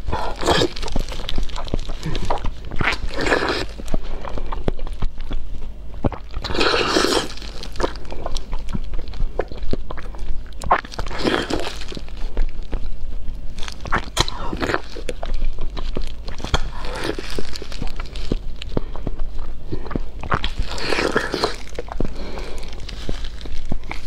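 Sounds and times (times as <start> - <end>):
person chewing wetly: 0.0 - 24.0.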